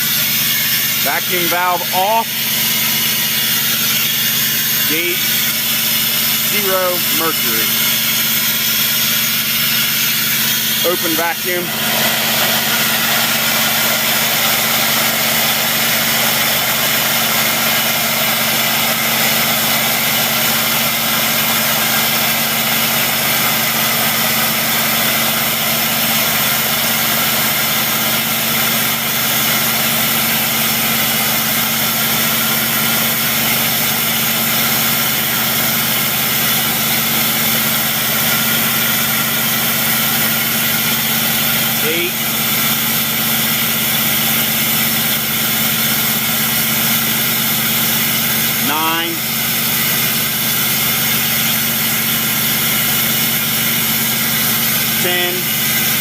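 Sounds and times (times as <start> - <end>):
vacuum pump motor running: 0.0 - 56.0.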